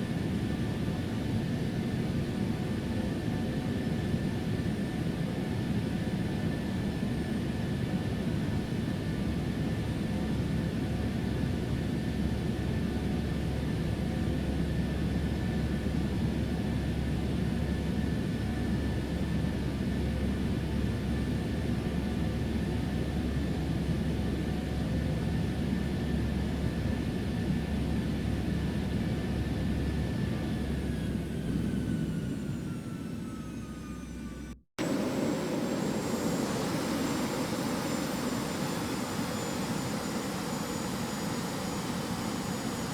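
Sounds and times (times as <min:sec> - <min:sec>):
jet engines rumbling and whining: 0:00.0 - 0:42.9.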